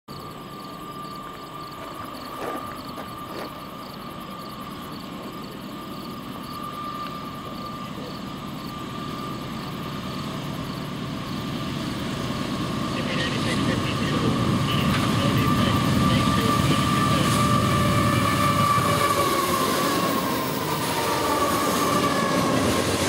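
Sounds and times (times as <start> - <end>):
distant freight train rumble: 0.1 - 23.0
steady high whine: 0.1 - 23.0.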